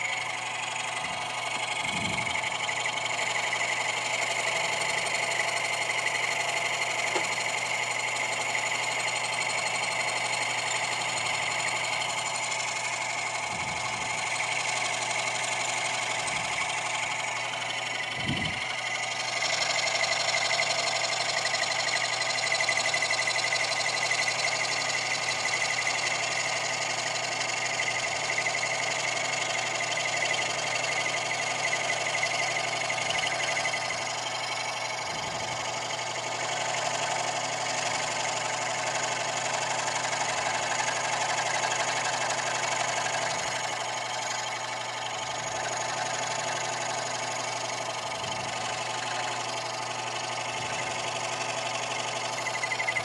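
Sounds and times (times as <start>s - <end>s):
electric motor running: 0.0s - 53.0s
scroll saw cutting wood: 0.0s - 53.0s.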